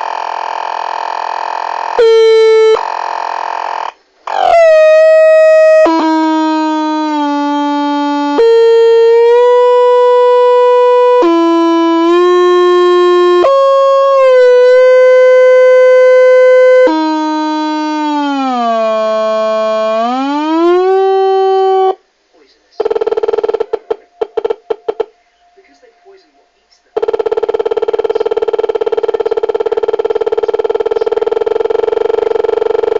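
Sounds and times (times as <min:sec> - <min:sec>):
sustained pitched tone: 0:00.0 - 0:22.0, 0:22.8 - 0:32.9.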